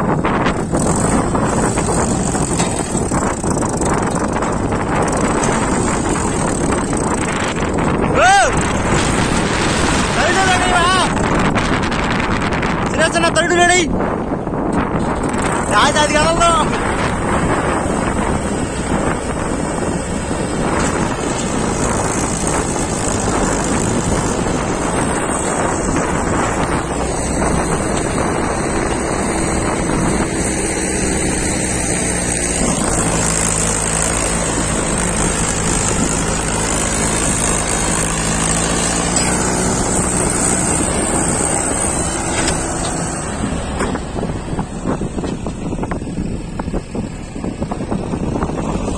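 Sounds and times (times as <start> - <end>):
backhoe diesel engine drone: 0.0 - 48.9
tractor diesel engine working hard: 0.0 - 48.9
wind buffeting microphone: 0.0 - 48.9.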